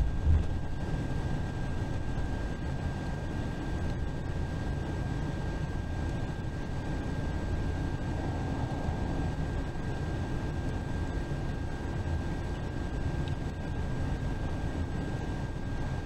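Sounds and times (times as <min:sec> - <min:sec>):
bus road and engine rumble: 0:00.0 - 0:15.8
high whine: 0:00.0 - 0:16.0.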